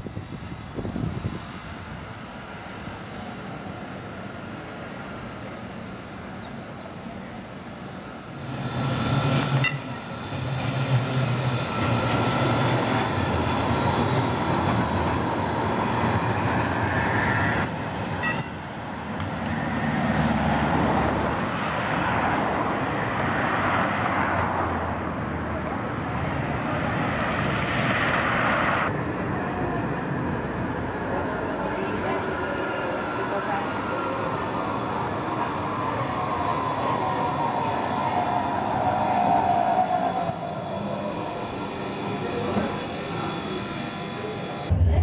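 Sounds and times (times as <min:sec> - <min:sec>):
city traffic noise: 0:00.0 - 0:45.0
trams humming on tracks: 0:00.0 - 0:45.0.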